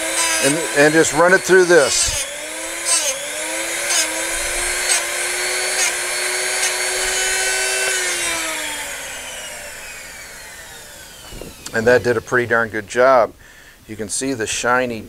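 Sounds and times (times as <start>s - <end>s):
sharpener motor whining: 0.0s - 12.5s
drill bit grinding rasp: 0.0s - 12.6s.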